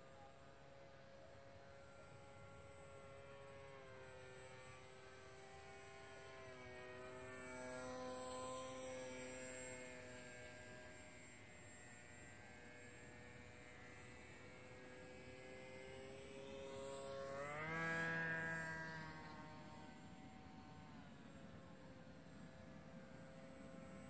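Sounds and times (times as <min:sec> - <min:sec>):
model plane engine buzzing: 0:00.0 - 0:24.0.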